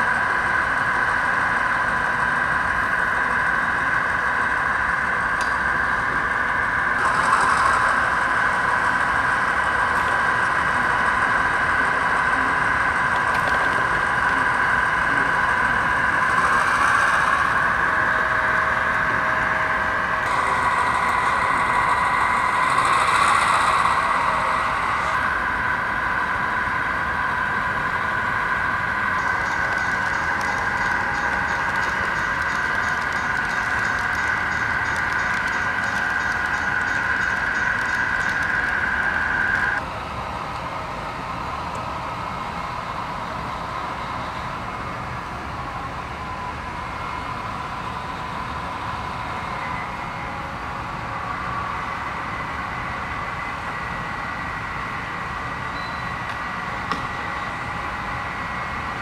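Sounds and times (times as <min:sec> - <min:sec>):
model locomotive engine sound: 0:00.0 - 0:59.0.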